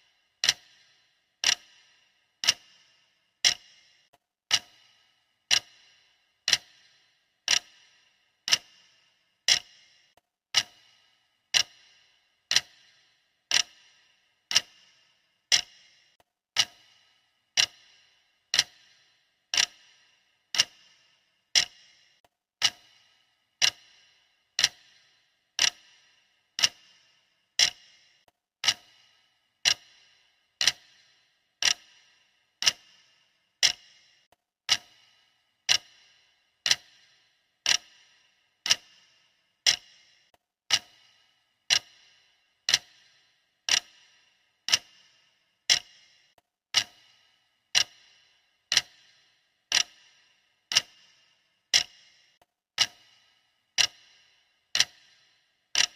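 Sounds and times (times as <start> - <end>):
clock ticking with ring: 0.0 - 55.9.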